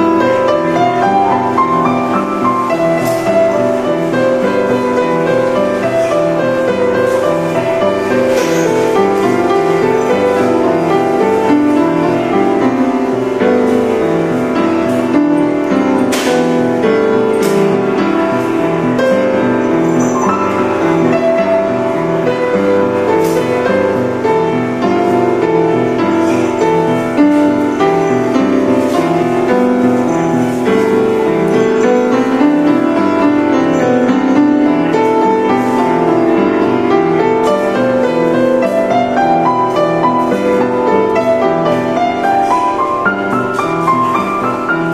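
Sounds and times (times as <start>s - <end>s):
upright piano playing: 0.0s - 44.9s.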